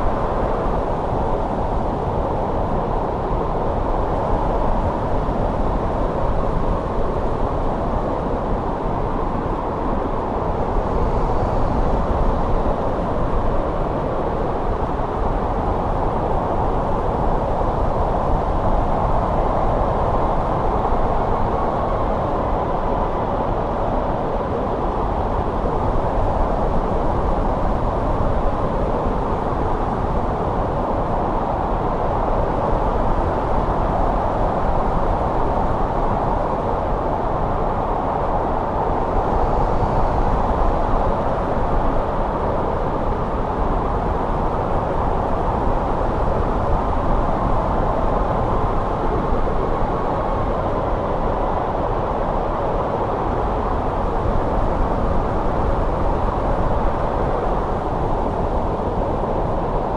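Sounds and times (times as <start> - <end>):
snowstorm wind blowing: 0.0 - 59.9.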